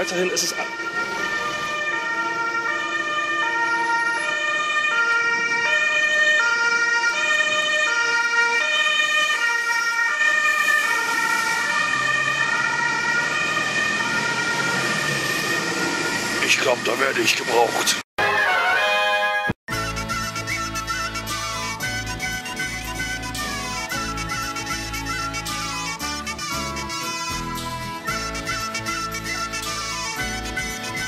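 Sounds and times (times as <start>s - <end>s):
two-tone siren: 0.0s - 31.0s.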